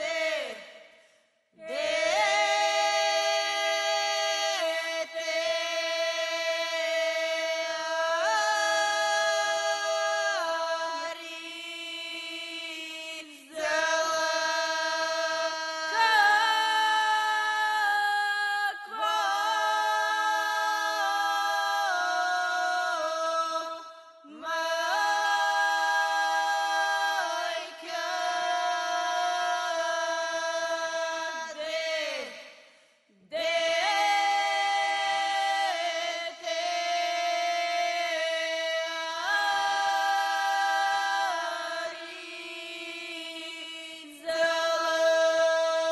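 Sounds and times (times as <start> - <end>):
women singing unaccompanied: 0.0 - 0.8, 1.6 - 32.5, 33.2 - 45.9.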